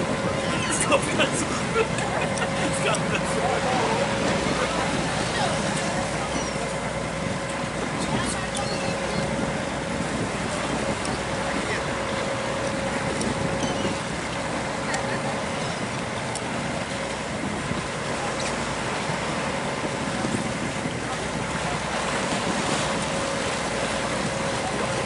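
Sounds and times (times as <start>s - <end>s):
boat engine humming: 0.0s - 25.0s
sea water rushing: 0.0s - 25.0s
wind: 0.0s - 25.0s.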